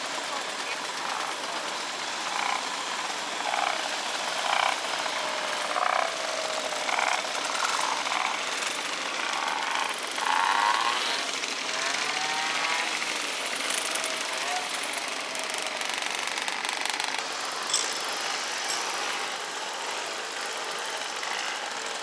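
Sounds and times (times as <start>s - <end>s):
moped engines idling: 0.0s - 22.0s
engine revving: 0.1s - 21.7s.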